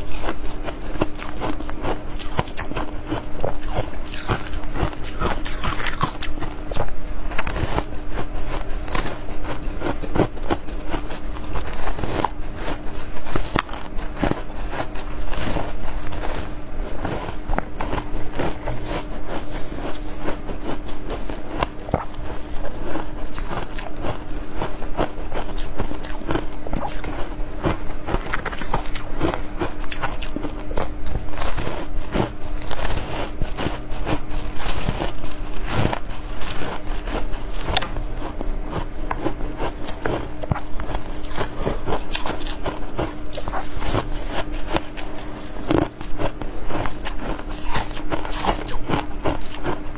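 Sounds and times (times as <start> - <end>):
ice crunching while chewing: 0.0 - 49.9
steady low hum: 0.0 - 49.9.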